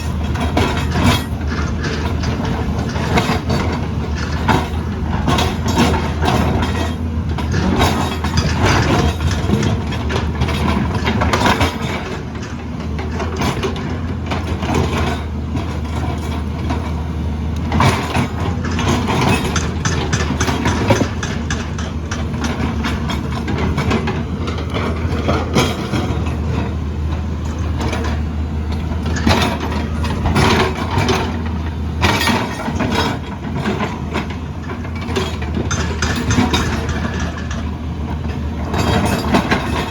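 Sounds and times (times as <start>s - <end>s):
metallic clanks: 0.0s - 16.9s, 17.6s - 39.9s
diesel machinery running: 0.0s - 39.9s.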